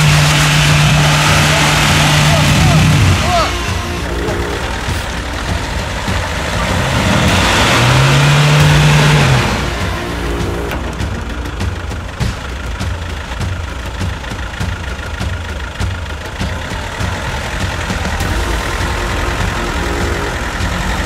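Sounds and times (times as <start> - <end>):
engine rumbling at low revs: 0.0 - 21.0
knocks and clatter: 0.0 - 21.0.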